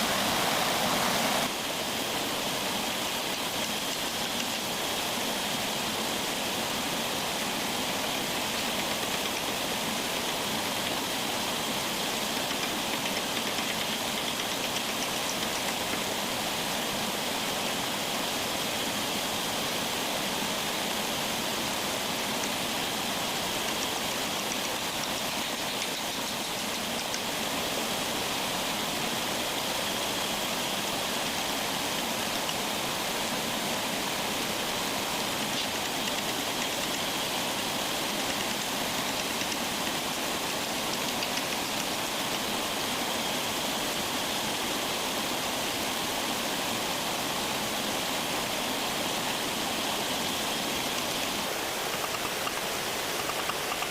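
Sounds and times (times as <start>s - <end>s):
water hissing: 0.0s - 53.9s.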